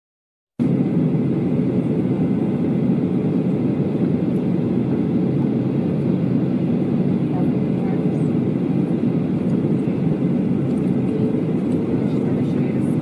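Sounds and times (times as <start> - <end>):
jet airliner cabin noise: 0.6 - 13.0.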